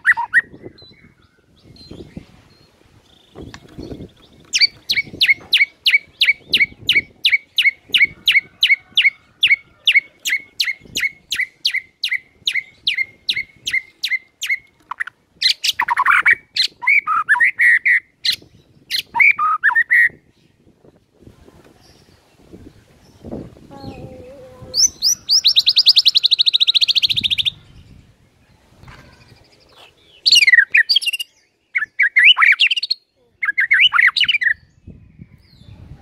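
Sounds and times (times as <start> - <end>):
songbird singing: 0.0 - 36.0.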